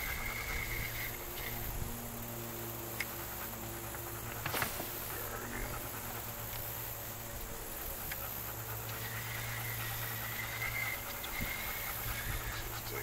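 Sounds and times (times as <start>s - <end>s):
fishing reel motor whining: 0.0s - 13.0s
steady low hum: 0.0s - 13.0s.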